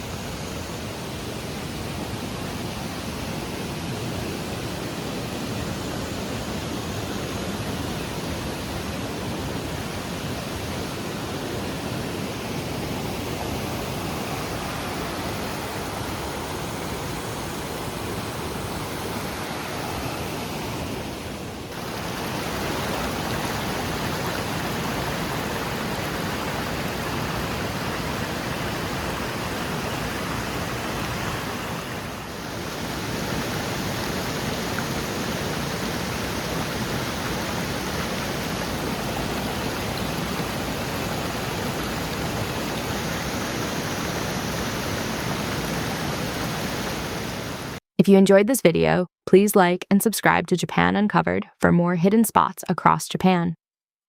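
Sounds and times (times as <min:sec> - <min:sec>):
waterfall and river rushing: 0:00.0 - 0:47.8.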